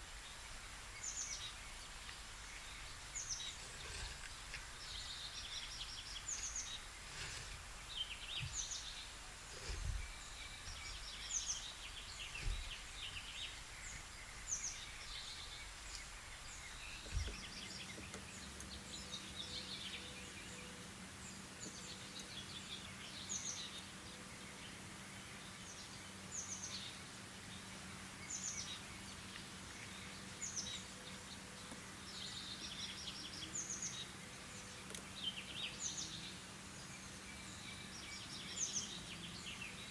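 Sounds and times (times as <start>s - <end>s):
faint steady hum: 0.0s - 39.9s
wild birds singing: 0.0s - 39.9s.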